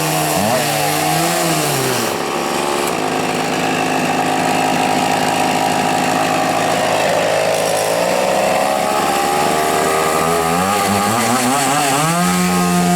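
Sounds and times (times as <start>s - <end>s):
chainsaw engine running: 0.0s - 12.9s.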